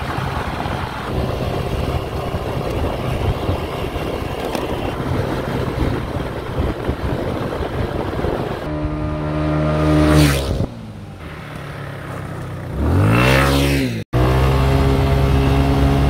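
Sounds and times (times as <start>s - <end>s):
scooter engine running: 0.0s - 16.0s
wind and road noise: 0.0s - 16.0s.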